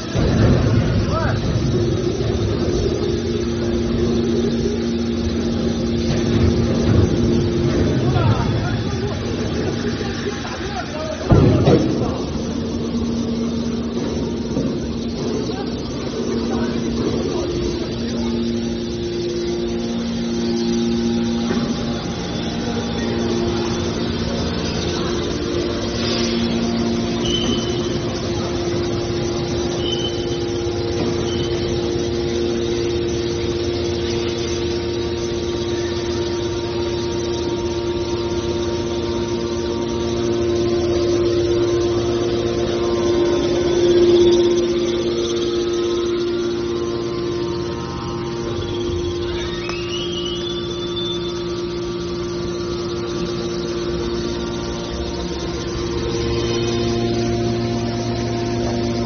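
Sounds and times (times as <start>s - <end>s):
baler machinery droning hum: 0.0s - 59.0s.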